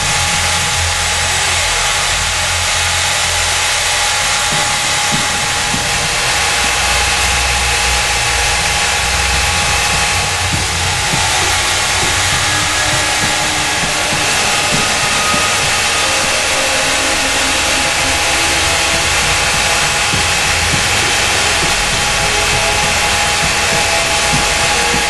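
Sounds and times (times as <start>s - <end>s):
belt sanding machine running: 0.0s - 25.0s.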